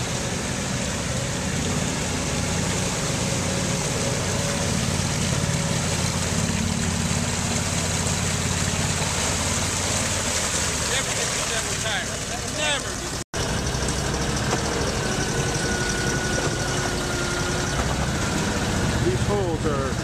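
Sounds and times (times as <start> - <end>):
atv engines droning: 0.0 - 20.0.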